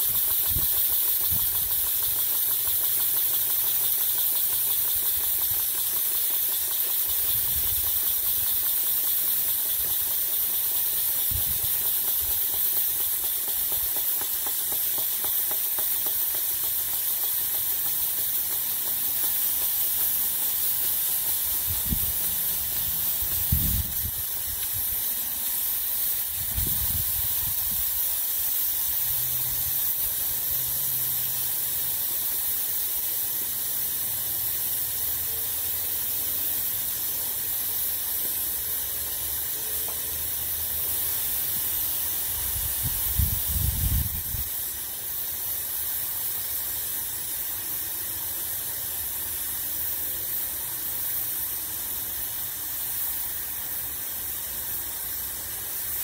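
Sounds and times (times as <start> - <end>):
steam engine running: 0.0 - 56.0
steam hissing: 0.0 - 56.0.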